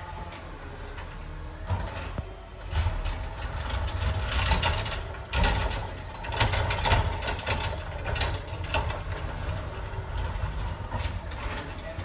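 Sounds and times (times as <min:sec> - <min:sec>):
garbage truck arm lifting cart: 0:00.0 - 0:12.0
truck engine running: 0:00.0 - 0:12.0.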